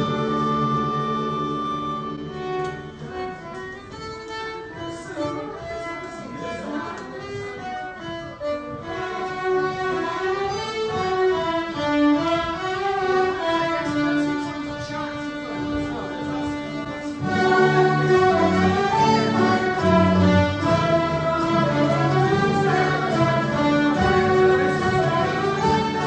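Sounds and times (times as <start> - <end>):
folk ensemble playing: 0.0 - 26.0.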